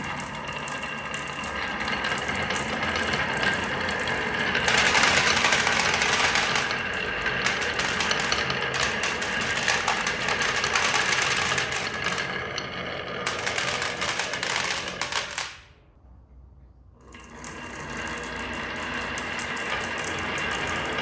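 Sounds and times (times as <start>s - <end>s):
marbles rattling along marble run: 0.0s - 15.6s, 17.3s - 21.0s.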